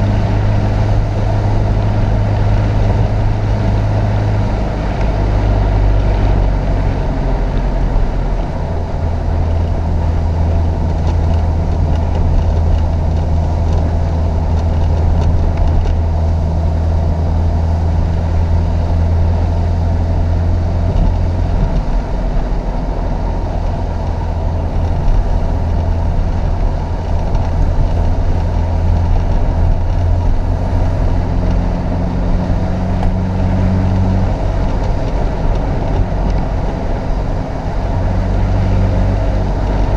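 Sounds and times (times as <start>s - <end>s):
car engine running hard under load: 0.0s - 39.9s.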